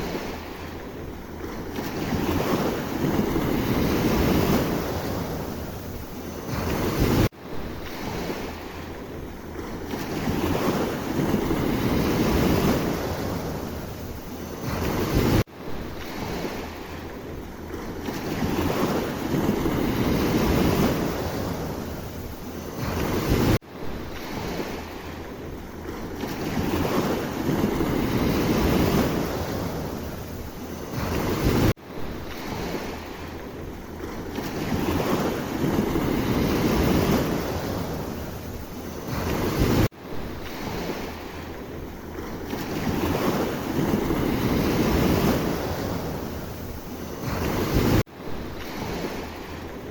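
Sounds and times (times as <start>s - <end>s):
sea waves washing in: 0.0s - 49.9s
wind rumbling on microphone: 0.0s - 49.9s.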